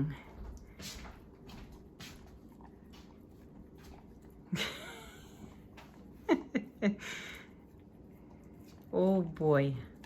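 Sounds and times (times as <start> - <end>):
dog licking: 0.4 - 10.0.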